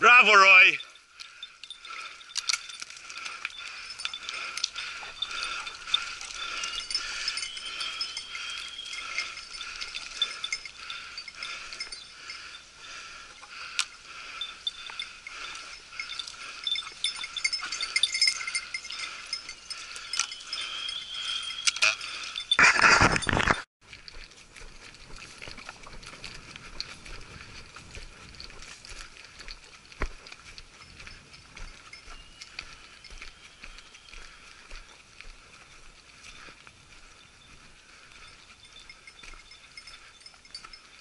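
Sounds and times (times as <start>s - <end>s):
small metal bells jingling: 0.0s - 41.0s.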